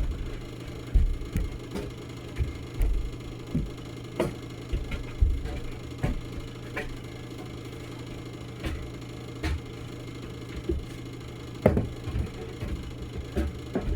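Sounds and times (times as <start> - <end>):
low machine hum: 0.0 - 13.9.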